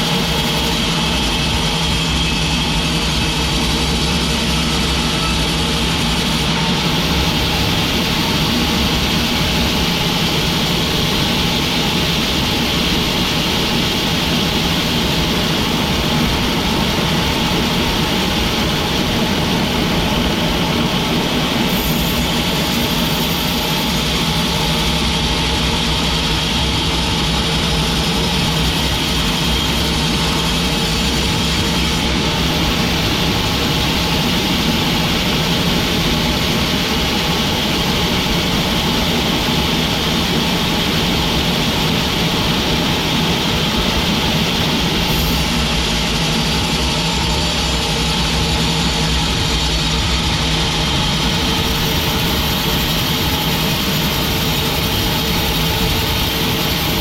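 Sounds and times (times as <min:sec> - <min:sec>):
sawmill machinery drone: 0:00.0 - 0:57.0.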